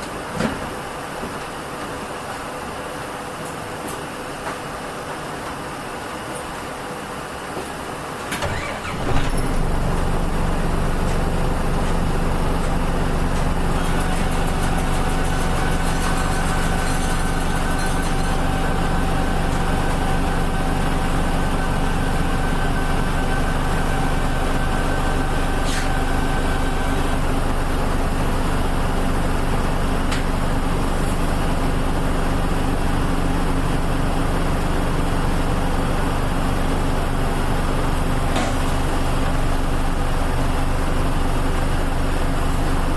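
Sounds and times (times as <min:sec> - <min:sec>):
bus diesel engine idling: 0:04.7 - 0:42.9.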